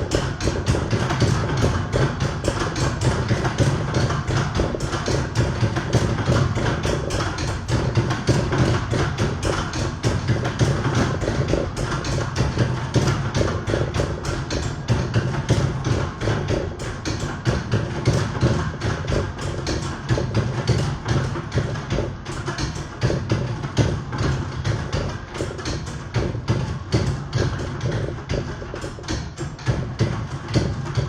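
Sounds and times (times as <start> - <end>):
clatter of strikes and knocks: 0.0 - 31.0.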